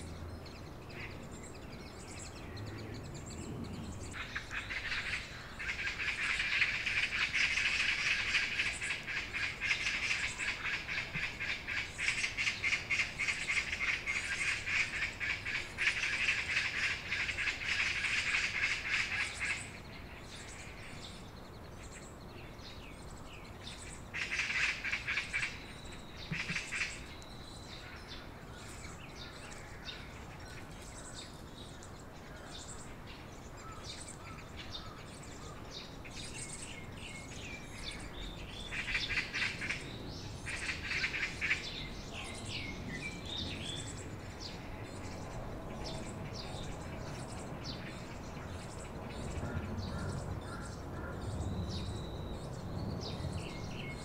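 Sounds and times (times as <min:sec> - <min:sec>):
nestlings begging chatter: 0:00.0 - 0:54.0
small birds chirping: 0:00.0 - 0:54.0.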